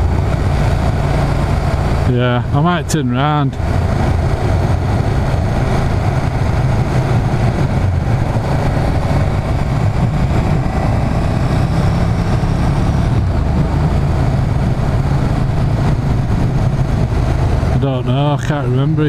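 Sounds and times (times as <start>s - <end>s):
motorcycle engine running: 0.0s - 19.0s
road noise: 0.0s - 19.0s
rush of wind: 0.0s - 19.0s.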